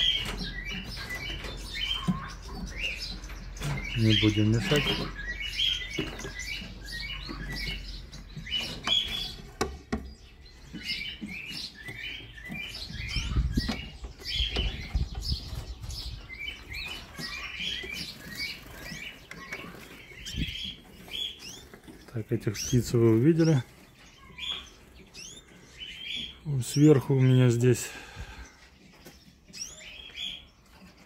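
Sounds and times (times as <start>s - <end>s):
canaries chirping: 0.0s - 31.0s.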